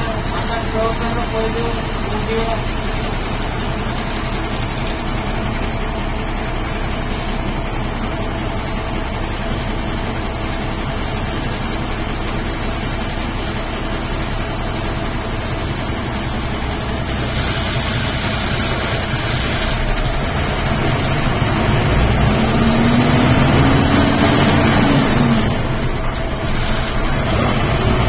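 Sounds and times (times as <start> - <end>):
bus engine running: 0.0 - 28.0
road noise: 0.0 - 28.0.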